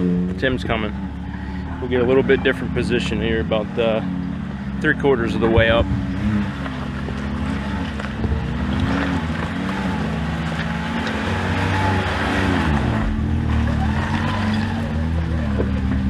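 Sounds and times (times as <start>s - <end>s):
utility vehicle engine revving: 0.0s - 16.0s.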